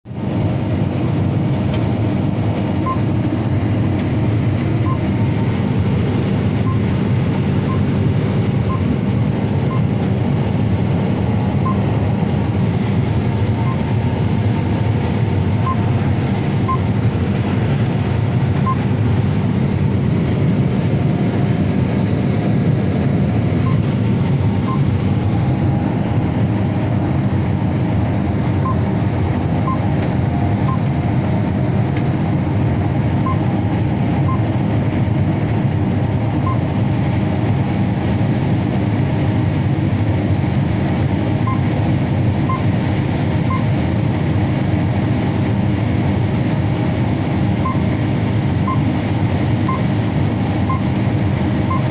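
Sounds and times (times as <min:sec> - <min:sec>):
combine harvester drone: 0:00.1 - 0:51.9.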